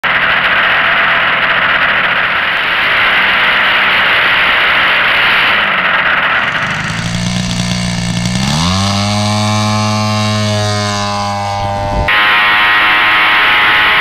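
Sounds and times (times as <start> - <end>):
model aircraft engine: 0.0 - 14.0
model aircraft propeller rush: 0.0 - 14.0.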